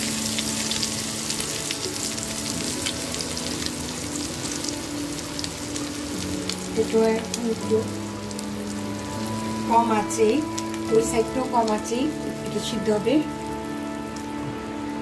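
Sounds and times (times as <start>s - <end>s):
omelette sizzling in oil: 0.0s - 15.0s.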